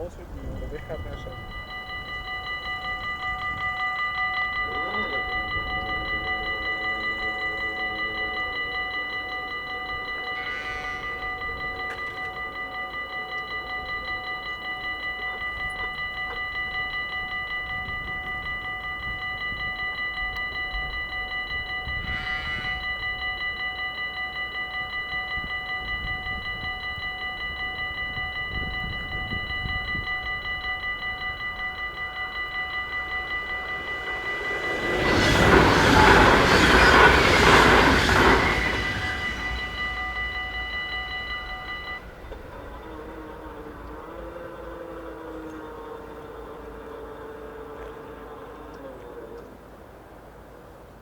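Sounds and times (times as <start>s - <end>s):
level crossing warning bells: 0.0s - 51.0s
train rumble: 0.0s - 51.0s.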